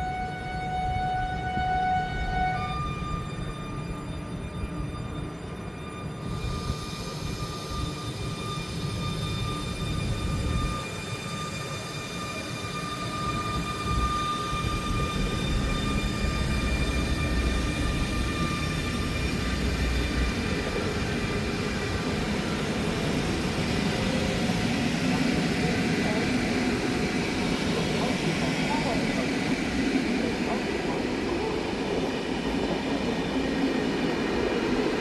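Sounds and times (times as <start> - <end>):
train low rumble: 0.0 - 35.0.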